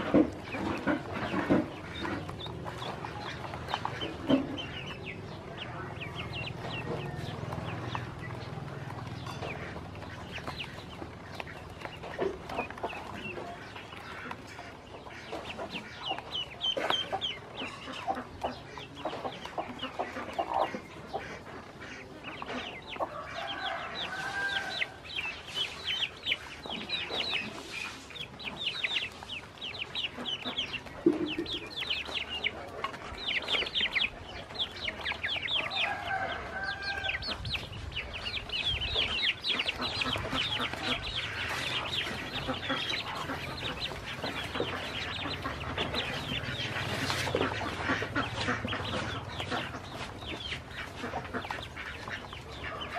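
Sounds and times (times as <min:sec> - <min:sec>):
ducklings peeping: 0:00.0 - 0:52.9
hen clucking: 0:00.0 - 0:52.9.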